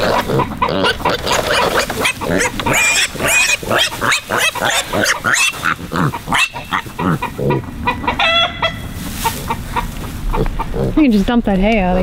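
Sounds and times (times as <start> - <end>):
piglets grunting and squealing: 0.0 - 11.1.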